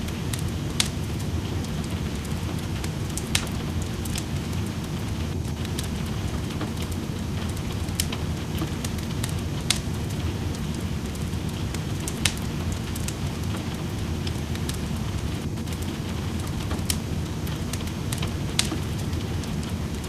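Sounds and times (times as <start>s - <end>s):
rain pattering: 0.0s - 20.0s
wood fire crackling and popping: 0.0s - 20.0s.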